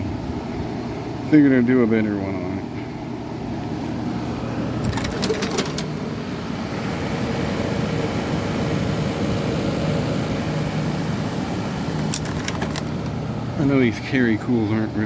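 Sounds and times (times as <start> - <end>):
air conditioner running: 0.0 - 15.0.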